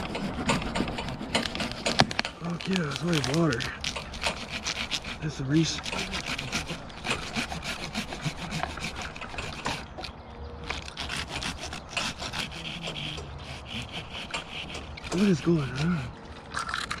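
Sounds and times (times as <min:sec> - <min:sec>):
hand saw cutting wood: 0:00.0 - 0:16.2.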